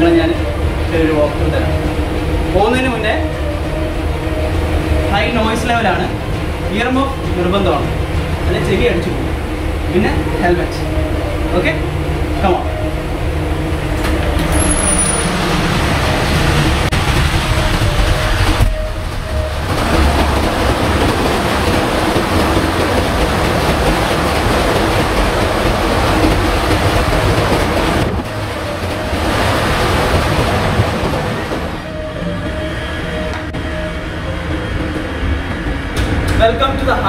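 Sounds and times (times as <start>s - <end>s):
engine room machinery roar: 0.0s - 37.0s.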